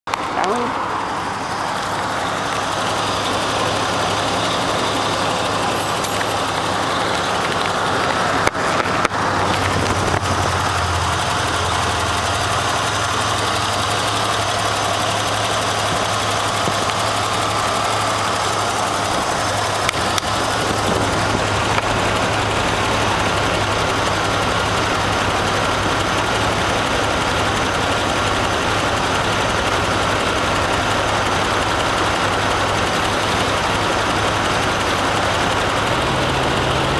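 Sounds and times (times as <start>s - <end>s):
big engine idling: 0.1s - 36.9s.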